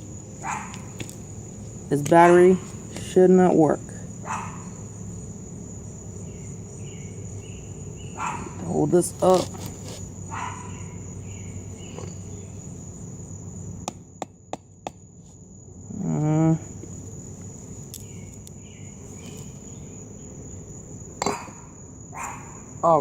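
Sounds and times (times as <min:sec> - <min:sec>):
cricket trill: 0:00.0 - 0:23.0
low background hum: 0:00.0 - 0:23.0.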